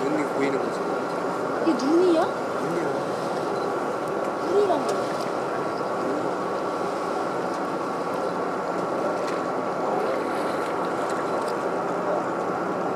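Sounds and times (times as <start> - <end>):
boat engine drone: 0.0 - 12.9
constant high whine: 0.0 - 12.9.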